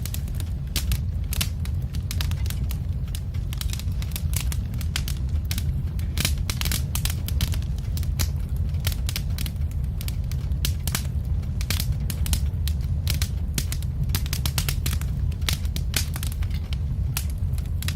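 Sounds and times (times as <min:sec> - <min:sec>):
low fire rumble: 0:00.0 - 0:17.9
wood fire crackling: 0:00.0 - 0:17.9.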